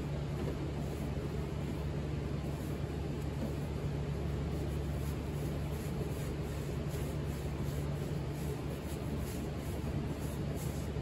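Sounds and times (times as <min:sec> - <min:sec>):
soft rubbing strokes: 0:00.0 - 0:11.0
steady low hum: 0:00.0 - 0:11.0.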